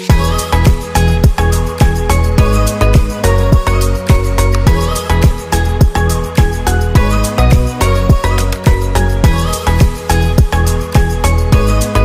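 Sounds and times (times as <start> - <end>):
sustained bass notes: 0.1 - 12.0.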